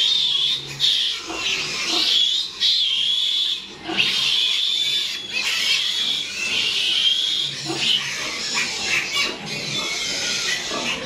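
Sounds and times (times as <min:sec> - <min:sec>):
piglet squealing: 0:00.0 - 0:11.0.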